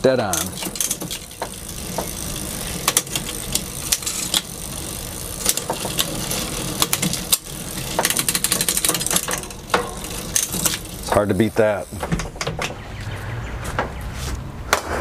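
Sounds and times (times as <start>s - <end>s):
bicycle chain running over cogs: 0.0s - 12.7s
ratcheting clicks: 0.0s - 12.7s.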